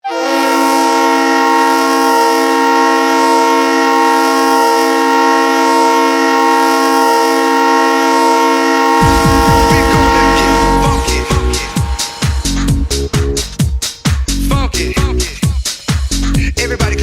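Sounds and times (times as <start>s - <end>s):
goal horn long blast: 0.0s - 15.4s.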